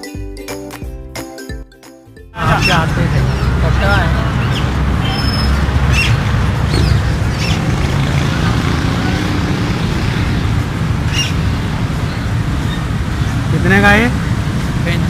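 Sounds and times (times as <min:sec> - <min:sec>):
caged birds chirping: 0:02.4 - 0:15.0
street and traffic rumble: 0:02.4 - 0:15.0.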